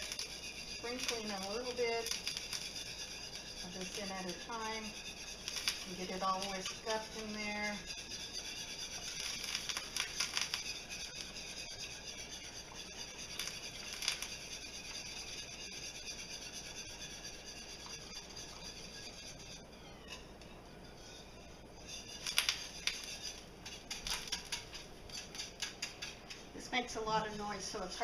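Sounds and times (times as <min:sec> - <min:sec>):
whisk scraping and clicking in pan: 0:00.0 - 0:28.0.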